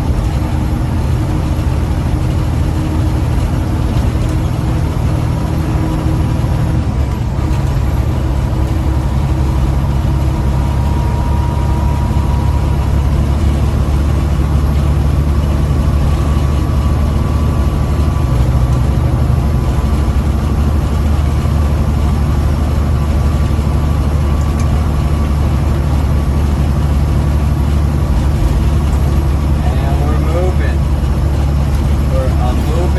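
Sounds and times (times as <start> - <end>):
truck diesel engine droning: 0.0 - 32.9.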